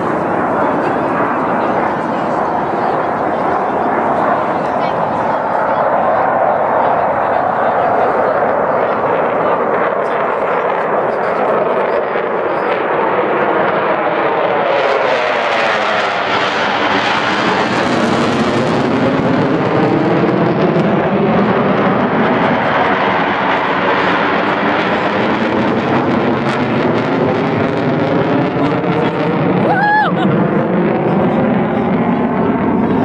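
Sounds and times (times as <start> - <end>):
fighter jet roaring overhead: 0.0 - 33.0.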